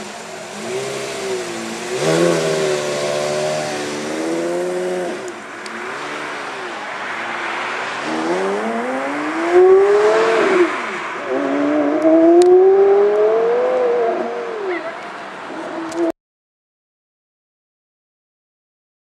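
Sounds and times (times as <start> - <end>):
sports car accelerating hard: 0.0 - 16.1.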